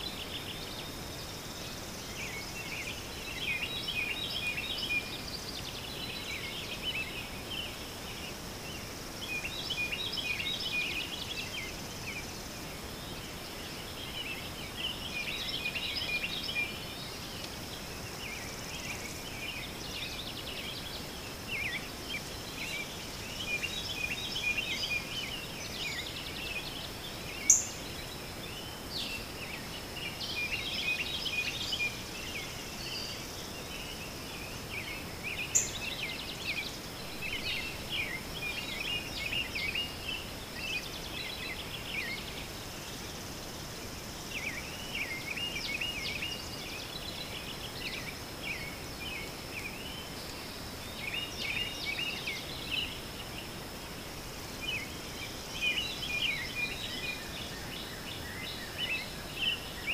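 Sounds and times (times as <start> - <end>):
bird chirping: 0.0 - 43.4, 44.2 - 59.9.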